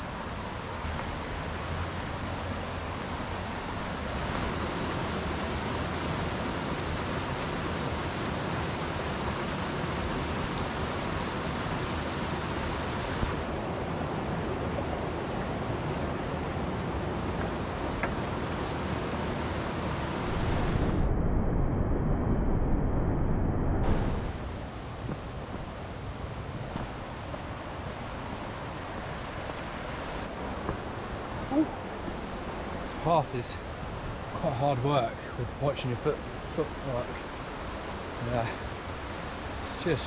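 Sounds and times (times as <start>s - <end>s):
river rushing: 0.0s - 21.0s, 24.0s - 40.0s.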